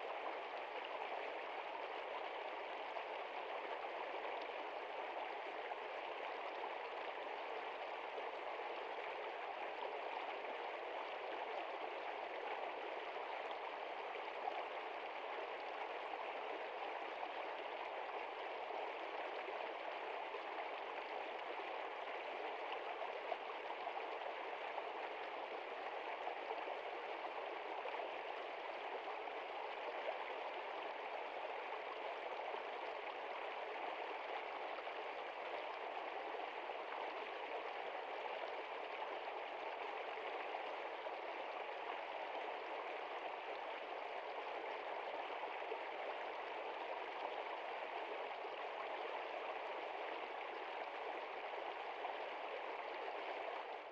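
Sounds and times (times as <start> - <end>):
stream flowing over stones: 0.0 - 53.9.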